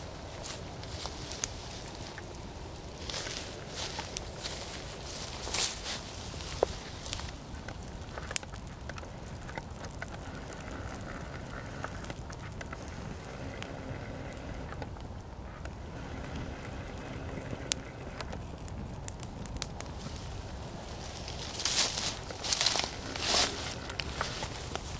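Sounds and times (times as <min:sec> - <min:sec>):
fire crackling and popping: 0:00.0 - 0:24.9
low rumble of flame: 0:00.0 - 0:24.9.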